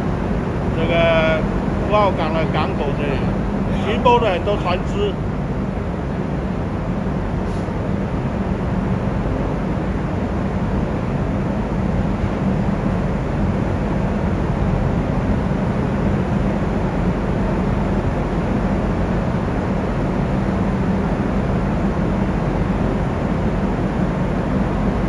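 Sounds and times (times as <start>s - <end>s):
ship engines rumbling: 0.0s - 25.0s.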